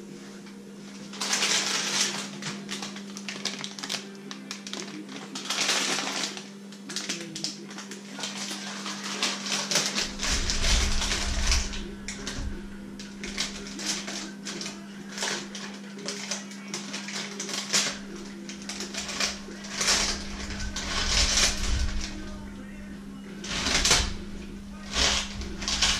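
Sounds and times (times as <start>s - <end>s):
steady low hum: 0.0s - 25.9s
plastic bag crinkling: 1.0s - 25.9s.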